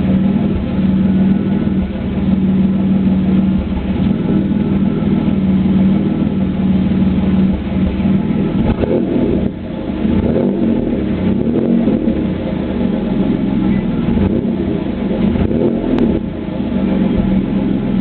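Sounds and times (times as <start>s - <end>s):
misfiring car engine idling: 0.0s - 18.0s.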